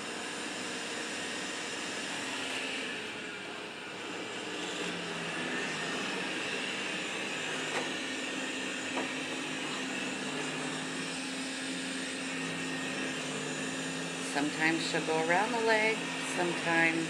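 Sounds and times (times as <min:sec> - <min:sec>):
robot vacuum running: 0:00.0 - 0:17.0.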